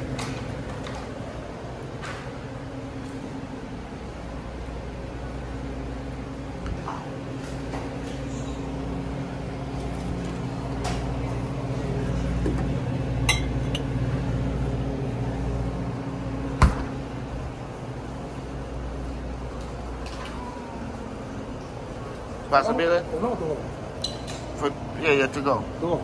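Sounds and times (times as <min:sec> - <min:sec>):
refrigeration hum: 0:00.0 - 0:26.0.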